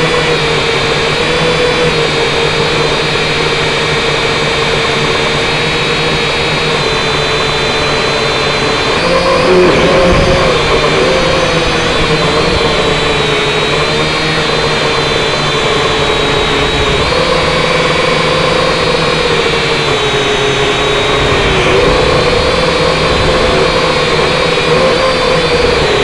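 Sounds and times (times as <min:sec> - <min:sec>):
toy drone propellers whining: 0:00.0 - 0:26.0.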